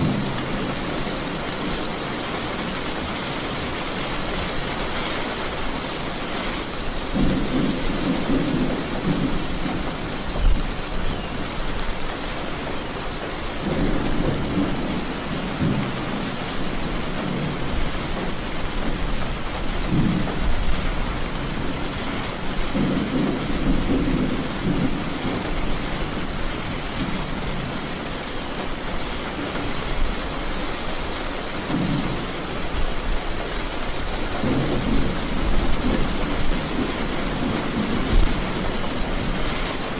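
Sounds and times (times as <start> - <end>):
rain falling: 0.0 - 39.9
thunder rumbling: 0.0 - 39.9.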